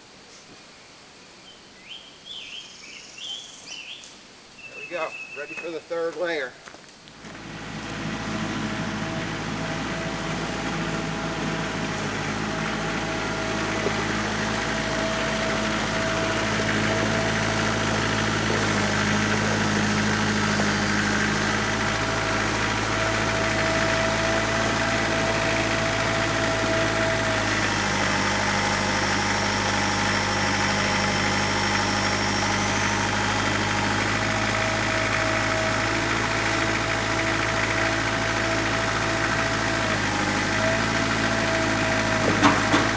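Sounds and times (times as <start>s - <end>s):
engine running steadily: 7.1s - 42.9s.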